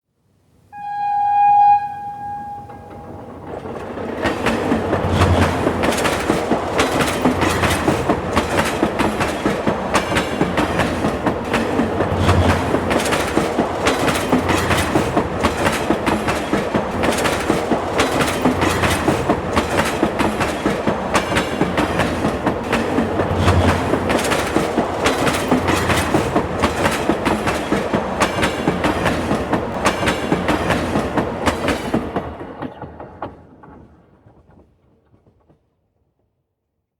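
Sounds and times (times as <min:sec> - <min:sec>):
heavy low train rumble: 0:00.8 - 0:34.6
train wheels clickety-clack: 0:02.8 - 0:35.9.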